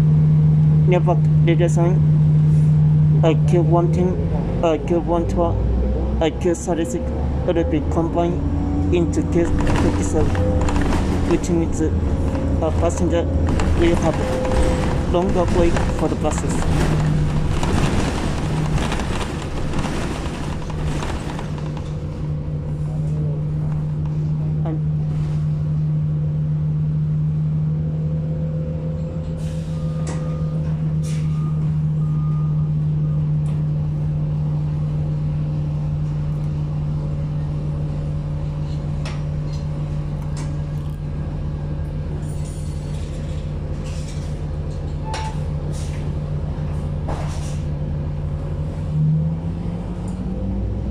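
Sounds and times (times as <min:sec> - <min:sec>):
bus engine drone: 0:00.0 - 0:50.9
road noise: 0:00.0 - 0:50.9.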